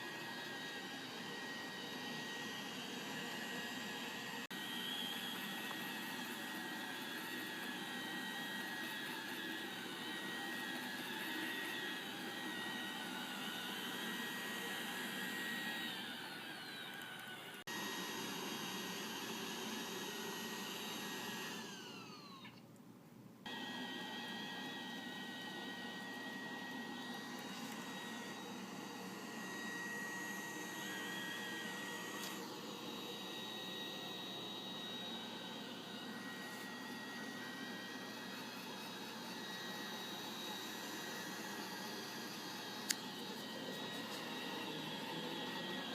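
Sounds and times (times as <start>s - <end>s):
robot vacuum whirring hum: 0.0s - 22.6s, 23.4s - 45.9s.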